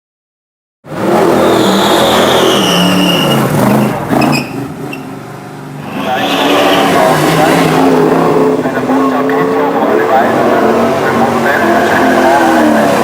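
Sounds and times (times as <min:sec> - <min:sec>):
racing car engine at full throttle: 0:00.8 - 0:13.0.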